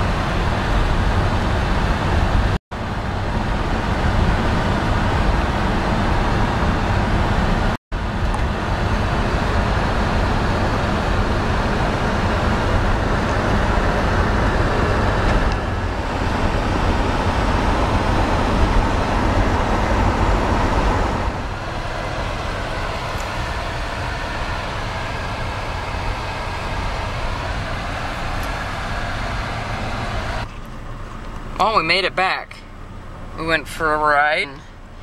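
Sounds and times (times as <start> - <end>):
car engine running: 0.0 - 35.0
road and wind noise: 0.0 - 35.0.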